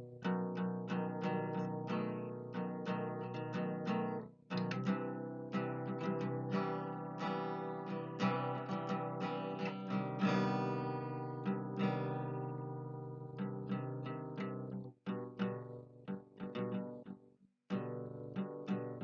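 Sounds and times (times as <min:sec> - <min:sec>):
acoustic guitar plucked notes: 0:00.0 - 0:19.0.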